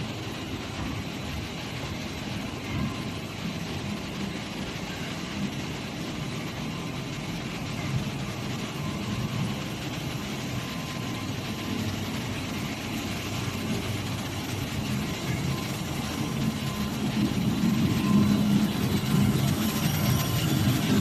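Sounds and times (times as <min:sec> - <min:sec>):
faint high whine: 0:00.0 - 0:21.0
production line machinery hum: 0:00.0 - 0:21.0.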